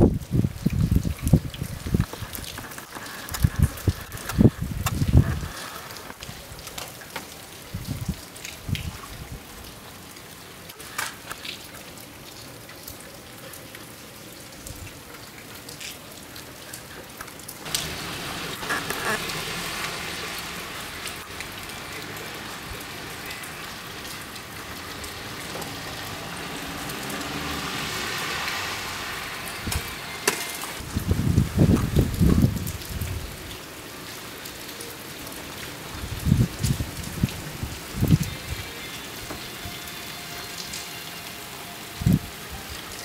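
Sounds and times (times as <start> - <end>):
wet snow pattering and dripping: 0.0 - 43.0.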